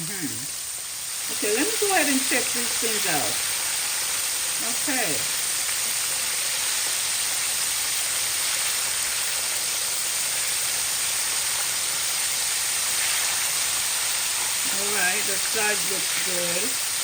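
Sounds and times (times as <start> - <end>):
wings deep-frying in oil: 0.0 - 17.0.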